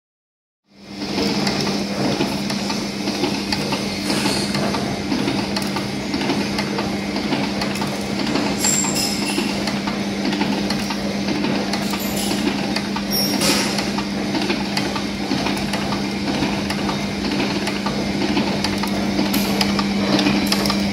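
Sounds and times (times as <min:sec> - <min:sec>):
constant machine hum: 0:00.7 - 0:20.9
forming machine rattling: 0:01.0 - 0:20.9.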